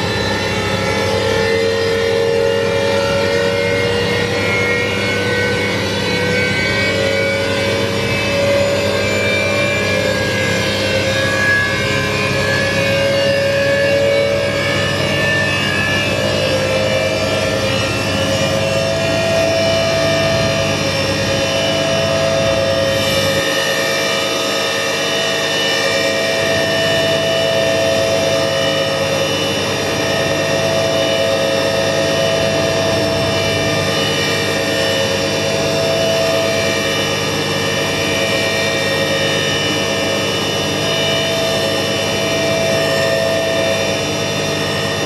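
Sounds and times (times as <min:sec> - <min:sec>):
washing machine spin whine: 0:00.0 - 0:45.0.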